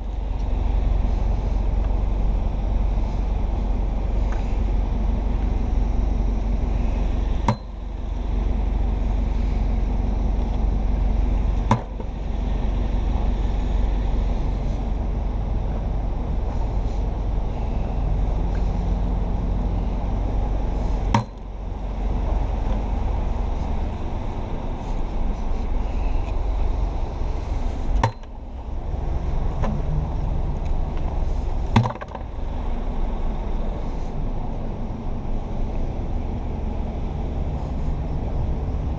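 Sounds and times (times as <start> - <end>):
city street noise: 0.0 - 38.9.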